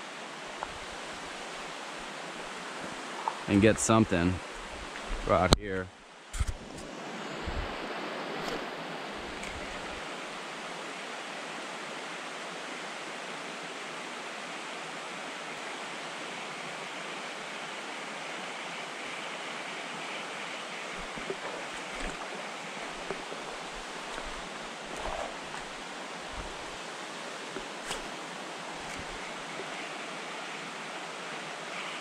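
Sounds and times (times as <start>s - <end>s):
stream rushing over riffle: 0.0s - 5.5s, 6.7s - 32.0s.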